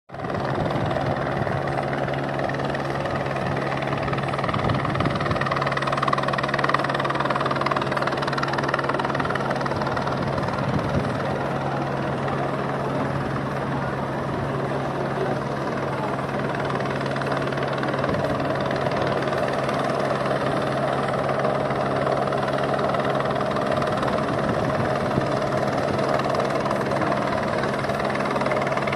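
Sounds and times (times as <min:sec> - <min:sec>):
helicopter engine and rotor hum: 0:00.1 - 0:28.9.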